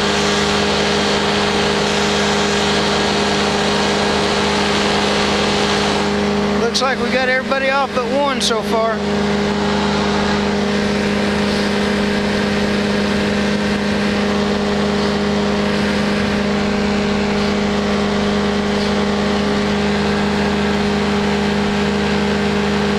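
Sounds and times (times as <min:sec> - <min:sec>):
engine and propeller droning: 0:00.0 - 0:22.9.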